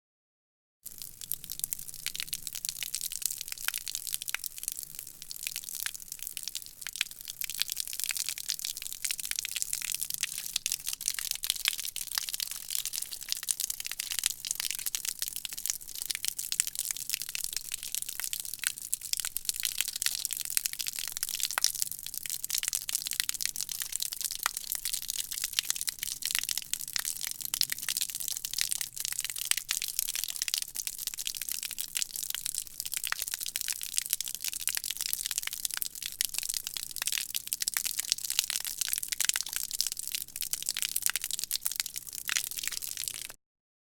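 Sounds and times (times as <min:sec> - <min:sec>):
water splattering on concrete: 0:00.8 - 0:43.4.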